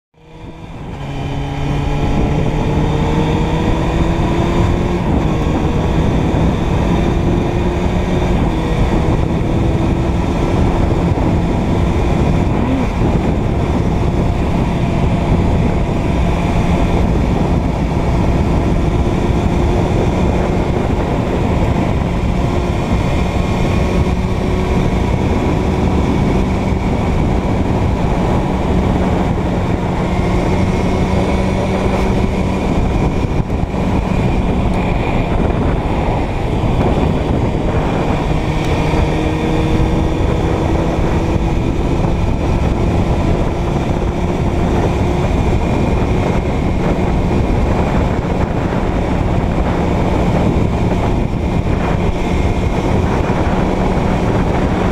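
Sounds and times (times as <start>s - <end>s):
motorcycle engine running: 0.2s - 54.9s
wind and road noise: 0.2s - 54.9s.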